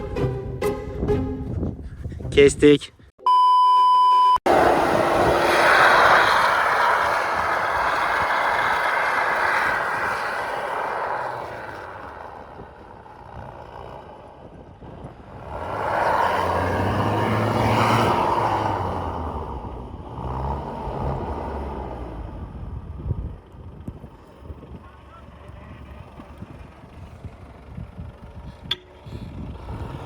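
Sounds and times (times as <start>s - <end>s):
low engine hum: 4.5s - 30.0s
pickup driving off-road: 4.5s - 30.0s.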